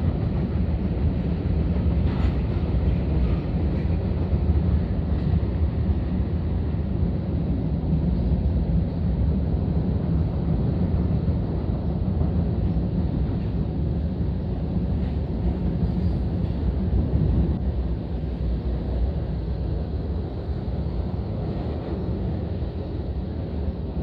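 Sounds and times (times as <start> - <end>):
train rumbling across bridge: 0.0 - 24.0.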